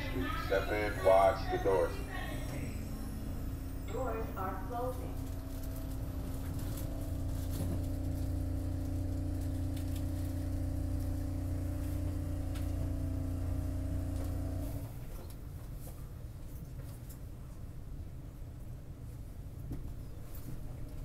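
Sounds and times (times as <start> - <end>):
subway car equipment hum: 0.0 - 21.0.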